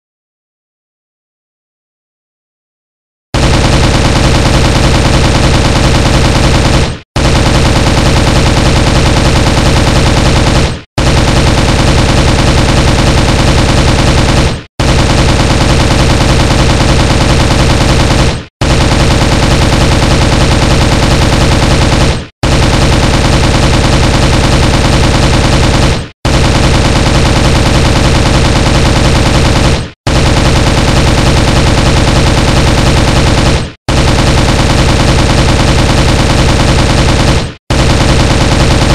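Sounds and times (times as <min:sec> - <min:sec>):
gunfire echo: 0:03.4 - 0:38.9
rifle automatic fire: 0:03.4 - 0:38.9.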